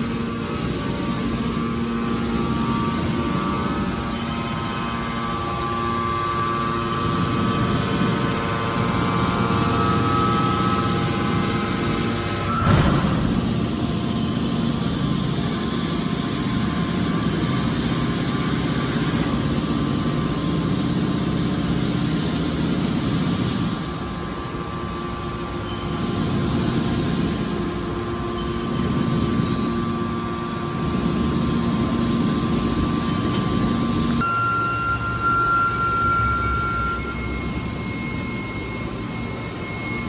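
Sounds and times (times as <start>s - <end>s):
baler machinery humming: 0.0s - 40.0s
steady mechanical whine: 0.0s - 40.0s.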